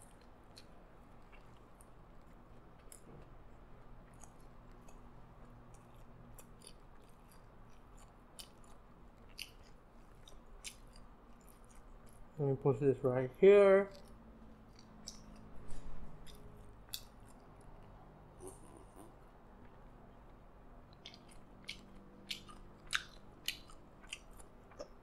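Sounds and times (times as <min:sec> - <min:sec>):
mouth chewing food: 0:00.0 - 0:12.6, 0:13.8 - 0:25.0
low steady hum: 0:00.0 - 0:25.0.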